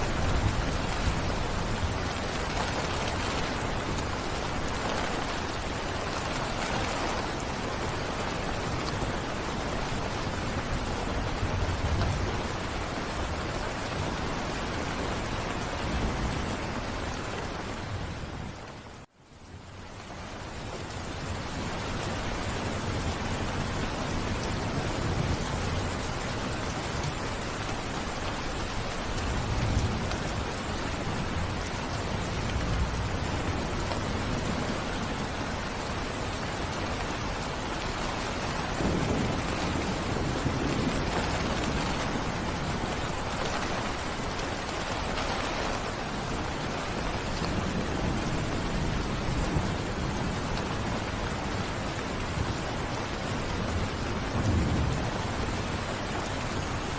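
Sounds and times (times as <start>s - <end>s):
thunder rumbling: 0.0s - 18.4s, 21.1s - 56.9s
heavy rain falling: 0.0s - 56.9s.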